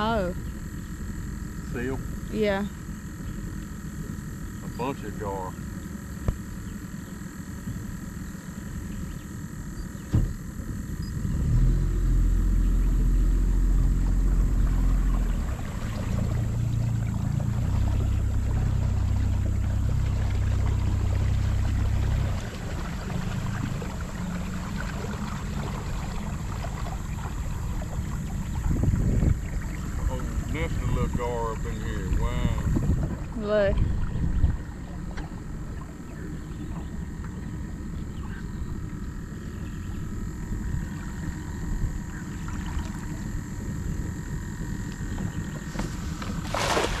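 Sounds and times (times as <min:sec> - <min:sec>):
boat motor humming: 0:00.0 - 0:47.0.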